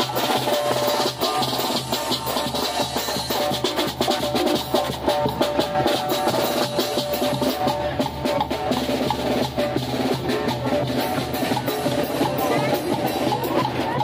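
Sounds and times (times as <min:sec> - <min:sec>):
snare drum: 0:00.0 - 0:14.0.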